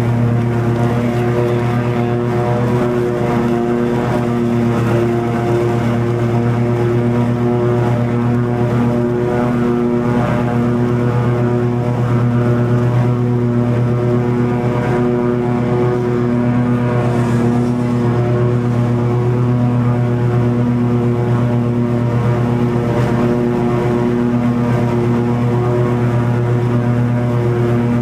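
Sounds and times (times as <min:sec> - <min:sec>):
lawn mower engine drone: 0:00.0 - 0:28.0
mower blades turning: 0:00.0 - 0:28.0.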